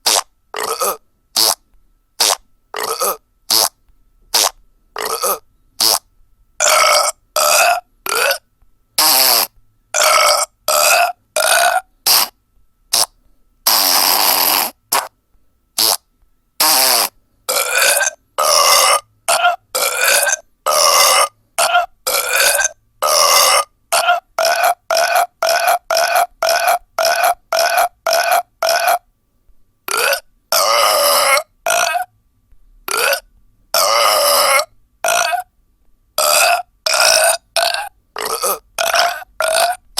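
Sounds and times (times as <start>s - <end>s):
burp sound effects: 0.0s - 1.6s, 2.2s - 3.8s, 4.4s - 6.0s, 6.6s - 13.1s, 13.7s - 15.1s, 15.8s - 29.0s, 29.9s - 32.1s, 32.9s - 35.5s, 36.2s - 39.9s.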